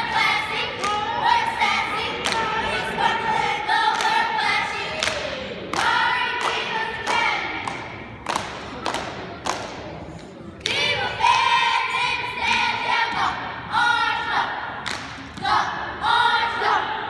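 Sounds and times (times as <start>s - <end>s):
cheerleaders chanting: 0.0s - 17.0s.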